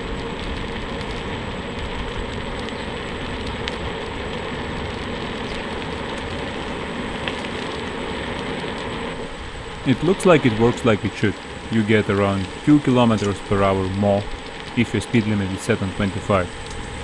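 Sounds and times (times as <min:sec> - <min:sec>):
tires rolling on asphalt: 0:00.0 - 0:17.0
wind rumbling on microphone: 0:00.0 - 0:17.0.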